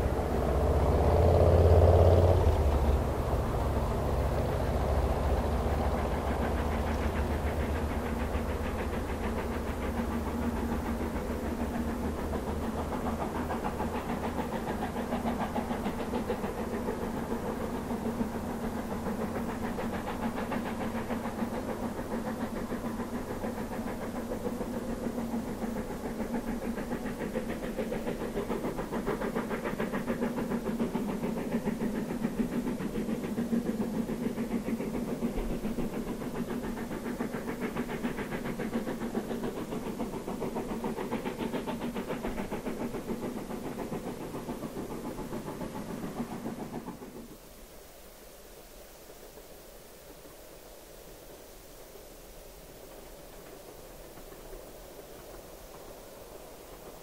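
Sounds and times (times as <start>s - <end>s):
steam hiss: 0.0s - 57.0s
steam locomotive chuffing: 0.0s - 57.0s.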